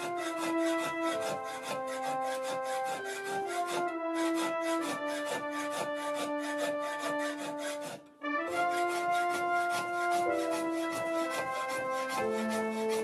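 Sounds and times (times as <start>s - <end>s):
background music with sustained notes: 0.0s - 13.0s
steel scraper shaving a blade: 0.0s - 13.0s.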